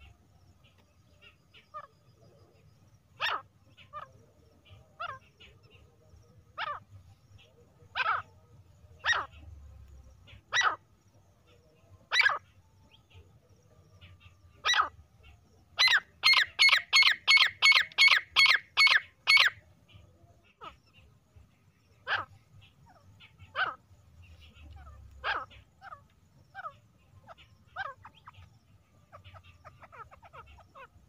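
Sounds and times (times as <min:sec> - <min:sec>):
francolin calling: 0:00.0 - 0:31.0.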